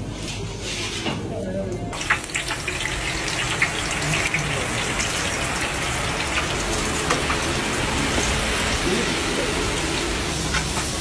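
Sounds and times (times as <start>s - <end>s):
hot oil sizzling and popping: 2.0s - 11.0s.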